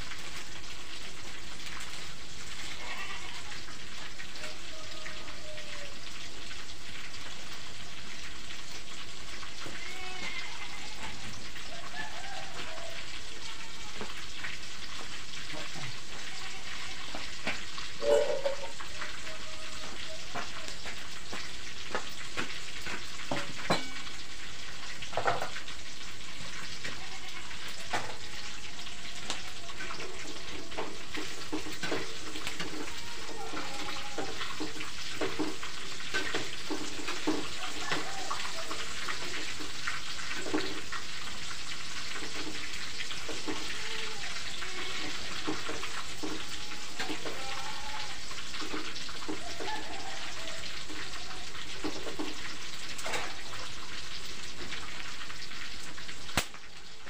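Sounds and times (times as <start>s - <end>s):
food sizzling in a wok: 0.0s - 57.0s.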